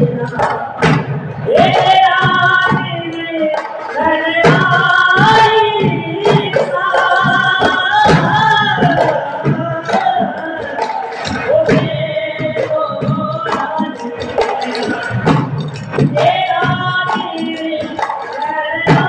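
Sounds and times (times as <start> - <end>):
percussion strokes: 0.0 - 19.0
wavering folk singing: 0.0 - 19.0.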